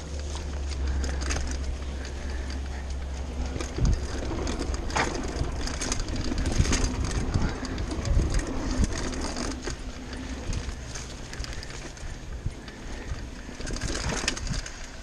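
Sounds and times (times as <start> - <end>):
bike rattling: 0.0 - 15.0
bike tyres clattering on planks: 0.0 - 15.0
wind rumble on microphone: 0.0 - 15.0.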